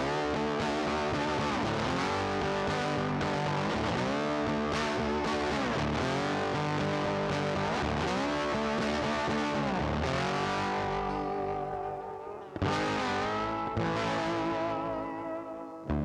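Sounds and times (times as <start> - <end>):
bass: 0.0 - 16.0
distorted electric guitar: 0.0 - 16.0.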